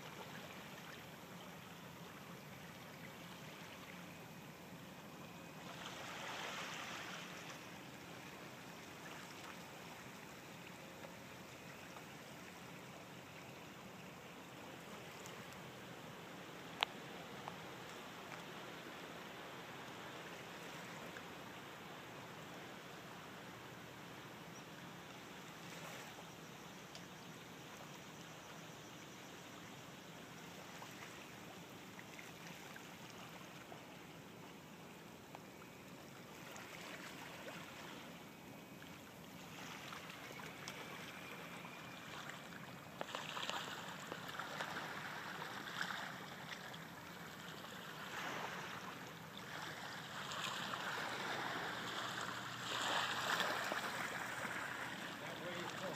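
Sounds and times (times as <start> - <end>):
swamp water rushing: 2.0 - 23.2, 30.3 - 55.9.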